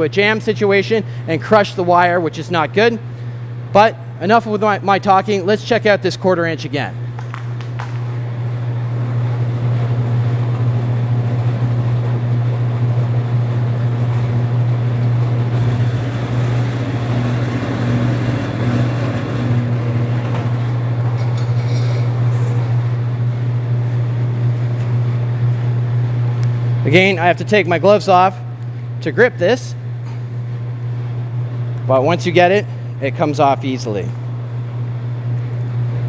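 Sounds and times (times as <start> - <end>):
wire stripping machine humming: 0.0 - 36.0.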